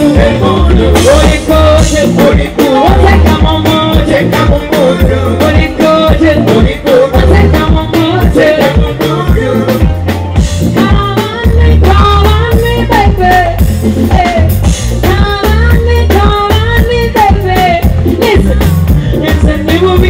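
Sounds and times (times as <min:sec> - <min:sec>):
woman singing into microphone: 0:00.0 - 0:10.0, 0:10.7 - 0:20.0
live band playing: 0:00.0 - 0:20.0.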